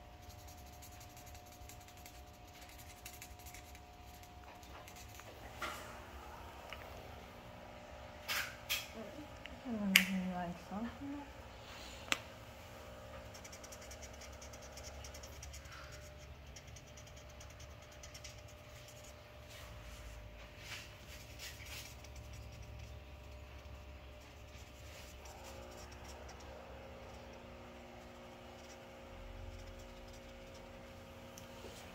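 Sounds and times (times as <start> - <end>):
faint scratching and clicking: 0.0 - 7.1, 12.1 - 31.9
faint steady hum: 0.0 - 31.9.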